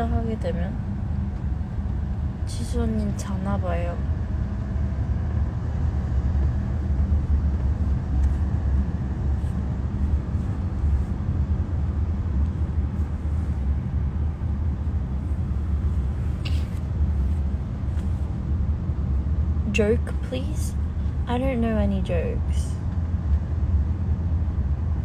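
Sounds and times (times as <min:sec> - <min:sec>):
vehicle rumble from inside: 0:00.0 - 0:25.0.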